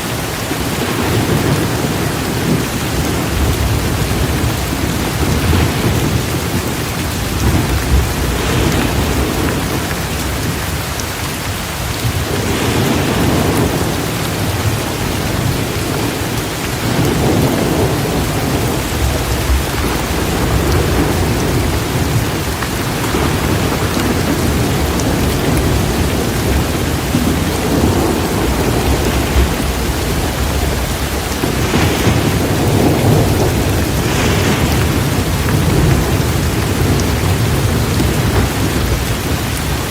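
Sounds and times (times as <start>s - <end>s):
heavy rain: 0.0s - 39.9s
thunder rolling: 0.6s - 10.8s, 11.9s - 39.9s.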